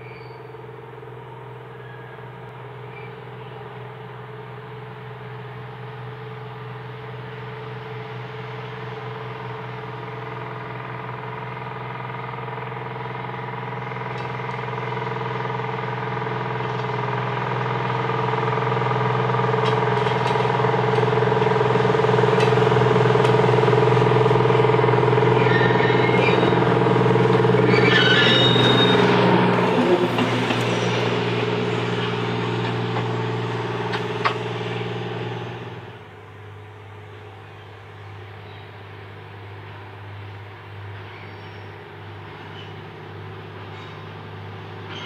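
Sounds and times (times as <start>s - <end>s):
rail motor engine hum: 0.0s - 45.0s.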